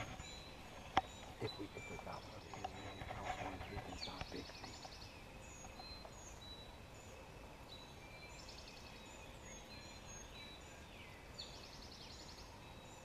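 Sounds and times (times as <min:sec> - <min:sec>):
songbirds chirping and trilling: 0:00.0 - 0:13.0.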